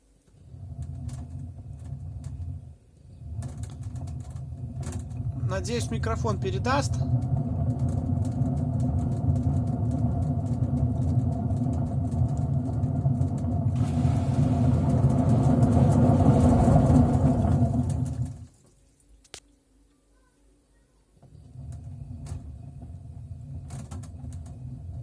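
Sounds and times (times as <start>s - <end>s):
drum bearing hum and rumble: 0.3s - 18.6s, 21.2s - 25.0s
washing machine drum spinning: 0.4s - 18.6s, 21.2s - 25.0s.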